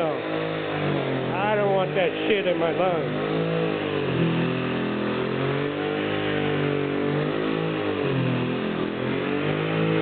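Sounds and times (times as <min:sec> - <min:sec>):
pneumatic sander running: 0:00.0 - 0:10.0.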